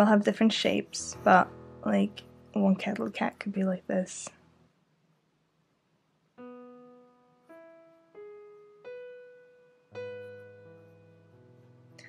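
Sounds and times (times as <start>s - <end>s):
slow piano notes: 0.5s - 4.7s, 6.3s - 12.0s.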